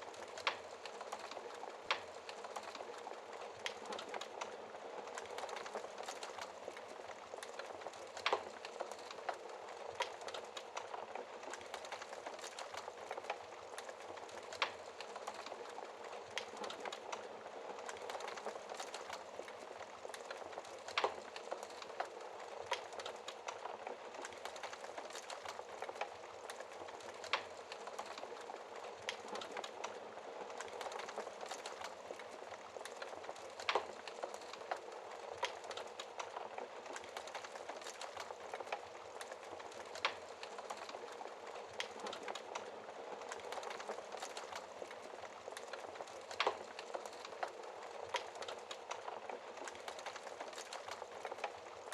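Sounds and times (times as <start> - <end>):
fire hissing and crackling: 0.0 - 51.9
burning logs popping: 0.1 - 51.9.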